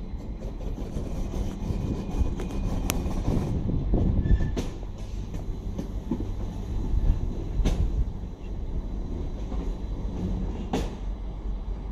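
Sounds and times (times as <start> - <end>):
train rumble: 0.0 - 11.9.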